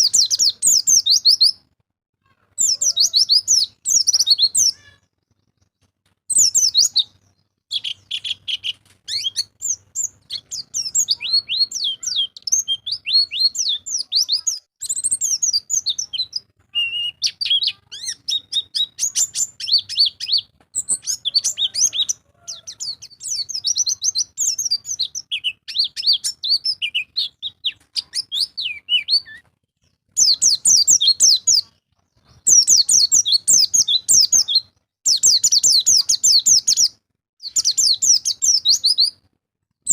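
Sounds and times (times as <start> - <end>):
bird chattering song: 0.0 - 1.6, 2.4 - 39.2.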